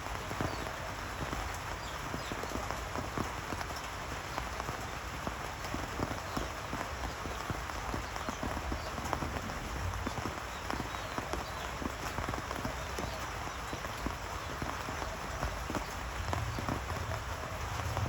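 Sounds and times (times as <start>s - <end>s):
rain drops tapping hard surface: 0.0s - 18.0s.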